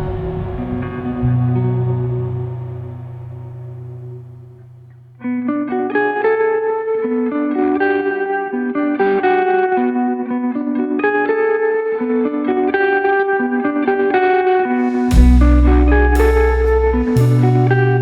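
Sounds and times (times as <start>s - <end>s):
calm guitar music: 0.0s - 18.0s.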